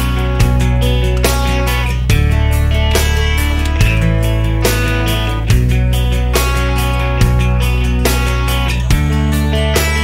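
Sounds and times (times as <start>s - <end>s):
steady bass: 0.0s - 10.0s
strummed guitar: 0.0s - 10.0s.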